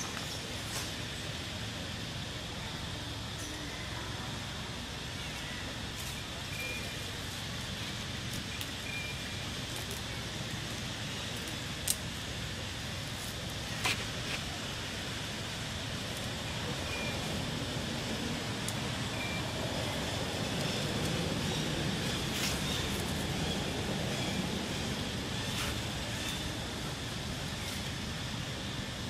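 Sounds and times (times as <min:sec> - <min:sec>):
low rumble and hiss: 0:00.0 - 0:29.0.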